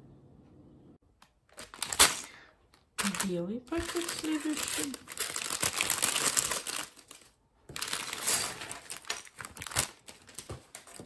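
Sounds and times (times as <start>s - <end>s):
plastic bag crinkling: 1.5s - 11.0s.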